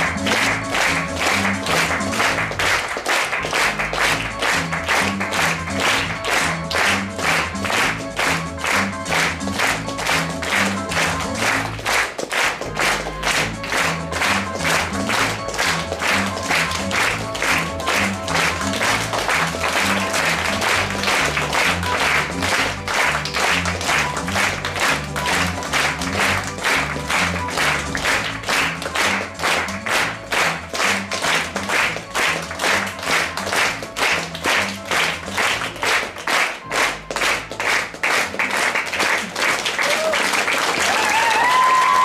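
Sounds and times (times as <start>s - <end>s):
music with bass line: 0.0s - 42.0s
rhythmic clapping: 0.0s - 42.0s.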